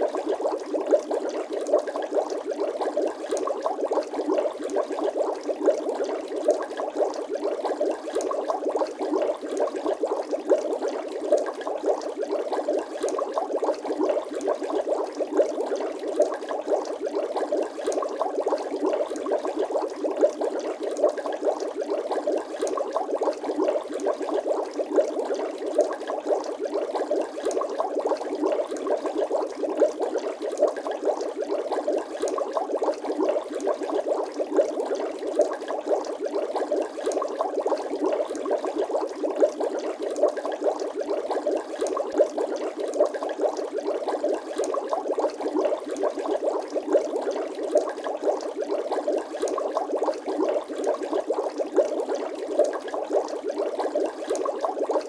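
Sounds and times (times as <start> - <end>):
water bubbling: 0.0 - 55.0.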